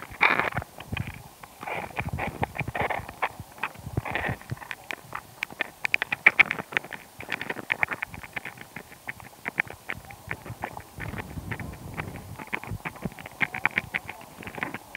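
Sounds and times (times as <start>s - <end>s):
underwater clicks and taps: 2.0s - 14.9s.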